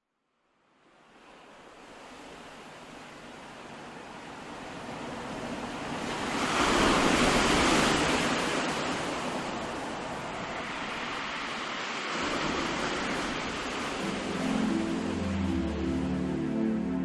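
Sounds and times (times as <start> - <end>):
ocean surf washing in: 1.2 - 17.0.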